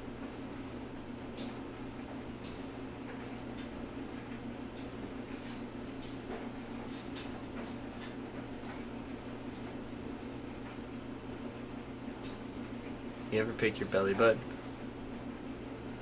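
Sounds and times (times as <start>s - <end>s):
low electrical machinery hum: 0.0s - 16.0s.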